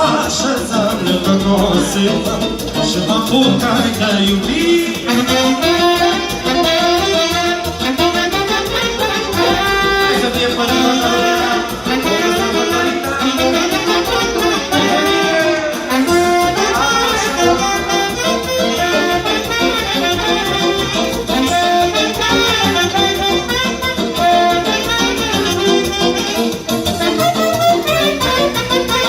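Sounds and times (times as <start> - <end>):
instrumental folk band music: 0.0 - 29.0.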